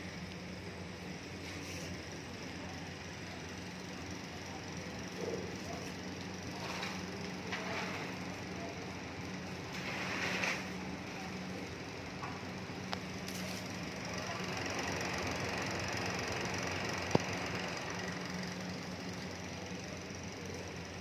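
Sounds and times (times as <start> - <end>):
electric fan motor humming: 0.0 - 21.0.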